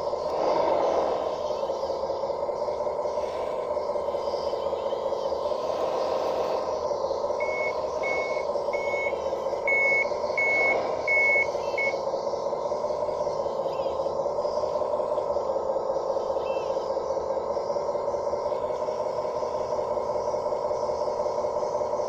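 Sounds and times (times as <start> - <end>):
steady drive drone: 0.0 - 22.0
high-pitched reversing beeps: 0.6 - 22.0.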